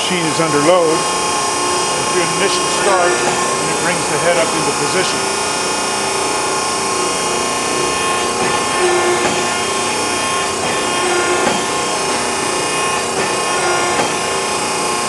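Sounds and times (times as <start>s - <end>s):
hydraulic press hum and whine: 0.0s - 15.0s.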